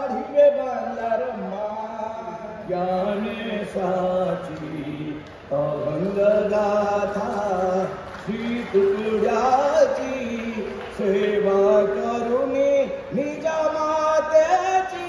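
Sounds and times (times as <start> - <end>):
man singing chant-like notes: 0.0 - 15.0.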